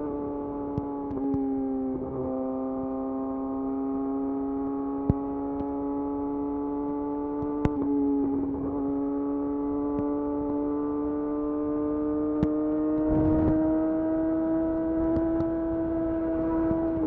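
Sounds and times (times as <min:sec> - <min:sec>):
motorcycle engine under throttle: 0:00.0 - 0:17.0.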